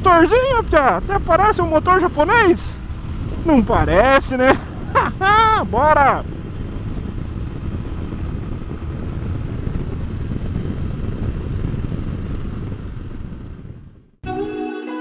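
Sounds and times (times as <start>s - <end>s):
motorcycle engine running: 0.0s - 14.2s
wind and road rush: 0.0s - 14.2s.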